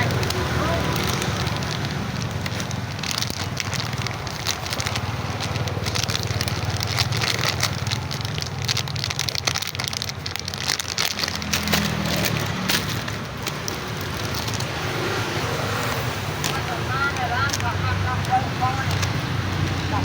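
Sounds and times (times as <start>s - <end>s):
food sizzling and crackling: 0.0s - 19.8s.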